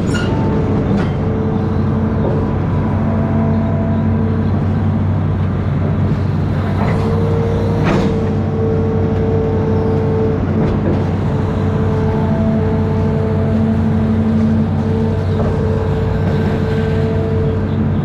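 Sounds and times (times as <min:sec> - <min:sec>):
diesel engine low drone: 0:00.0 - 0:18.0.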